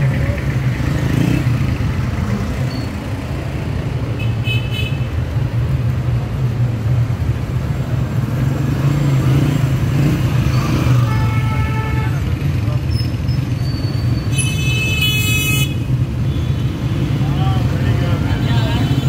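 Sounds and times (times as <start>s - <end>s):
vehicles passing close by: 0.0s - 19.0s.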